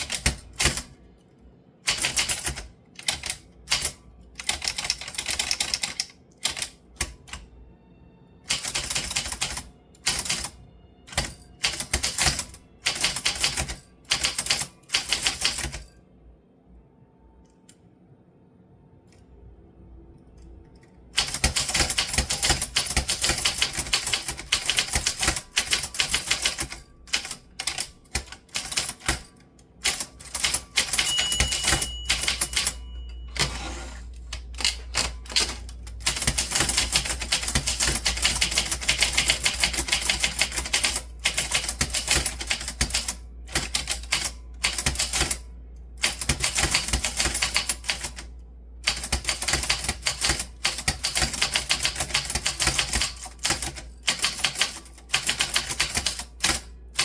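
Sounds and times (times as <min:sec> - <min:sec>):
typewriter keys clicking: 0:00.0 - 0:00.9, 0:01.9 - 0:07.4, 0:08.5 - 0:15.8, 0:21.2 - 0:32.8, 0:34.3 - 0:45.4, 0:46.0 - 0:57.0.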